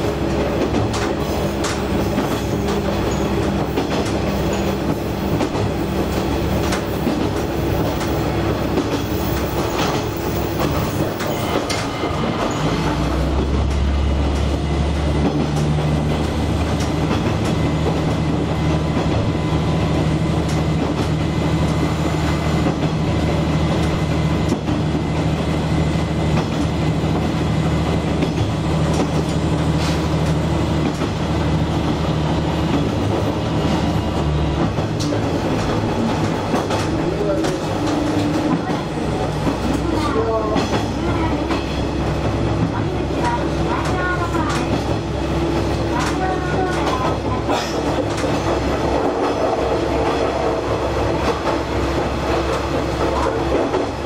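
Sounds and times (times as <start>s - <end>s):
diesel railcar engine drone: 0.0s - 54.0s.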